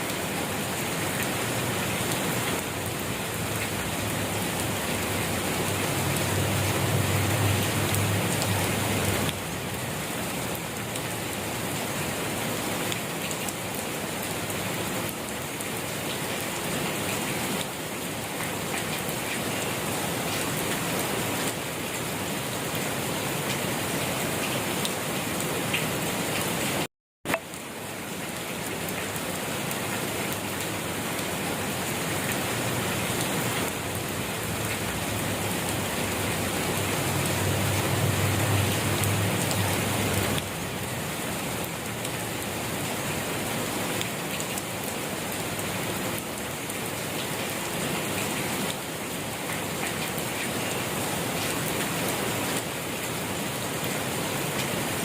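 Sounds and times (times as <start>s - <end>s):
rain falling on surfaces: 0.0s - 55.0s.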